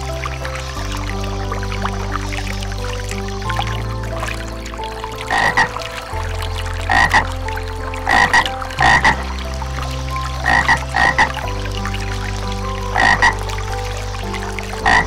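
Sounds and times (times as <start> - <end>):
background music with held chords: 0.0 - 15.0.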